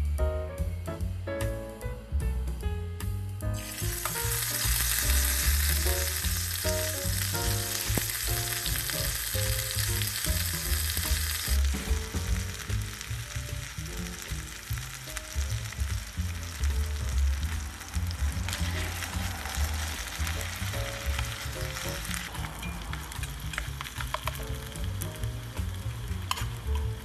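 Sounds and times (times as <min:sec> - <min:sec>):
background music: 0:00.0 - 0:27.0
food sizzling in hot oil: 0:03.6 - 0:27.0.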